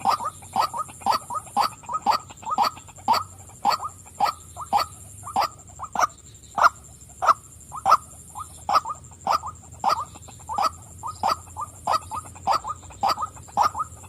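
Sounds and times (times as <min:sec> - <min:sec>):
waterhen wak calls: 0:00.0 - 0:14.0.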